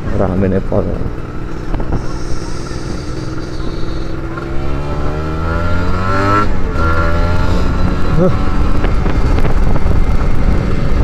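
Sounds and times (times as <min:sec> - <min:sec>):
motorcycle engine shifting gear: 0:01.0 - 0:11.0.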